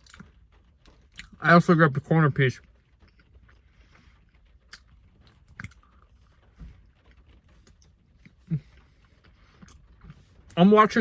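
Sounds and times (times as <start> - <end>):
open-mouthed chewing: 0.0 - 1.4, 3.0 - 10.6.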